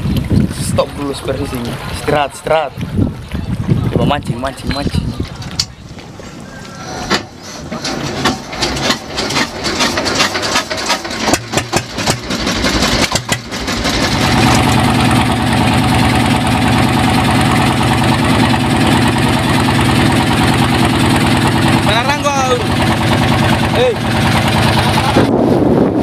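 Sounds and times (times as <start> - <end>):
boat engine starting and running: 0.0 - 26.0.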